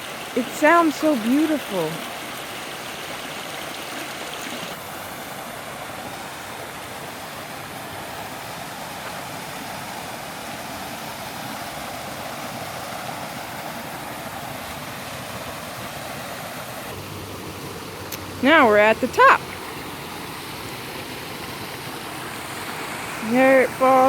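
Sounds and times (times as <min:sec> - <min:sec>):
creek water flowing: 0:00.0 - 0:24.0
waterfall rushing: 0:00.0 - 0:24.0.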